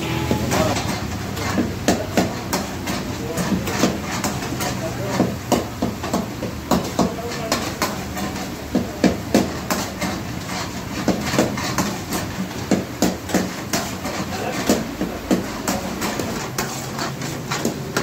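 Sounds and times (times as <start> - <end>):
food frying hiss: 0.0 - 18.0
metal utensils clanking on wok: 0.0 - 18.0.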